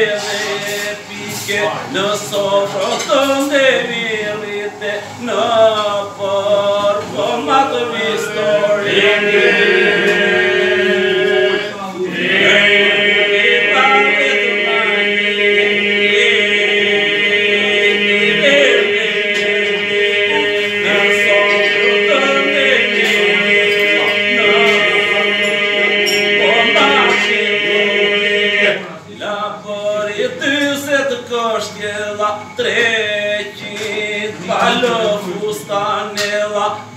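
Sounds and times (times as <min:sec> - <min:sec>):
men singing unaccompanied: 0:00.0 - 0:36.9.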